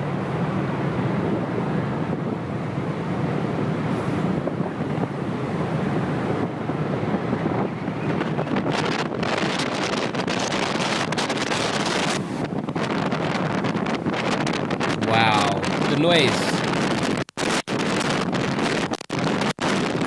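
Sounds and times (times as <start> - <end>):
strong wind blasting microphone: 0.0 - 20.0.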